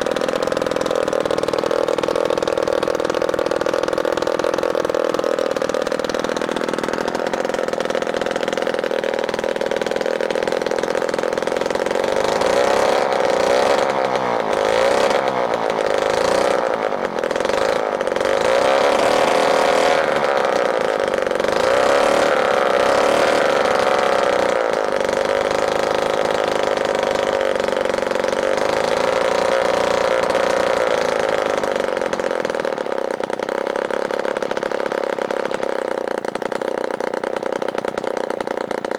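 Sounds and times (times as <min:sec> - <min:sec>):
model engine running: 0:00.0 - 0:38.9.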